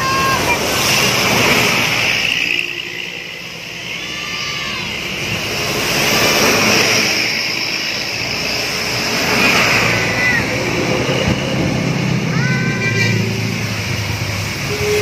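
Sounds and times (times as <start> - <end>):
bus passing on wet road: 0.0 - 15.0.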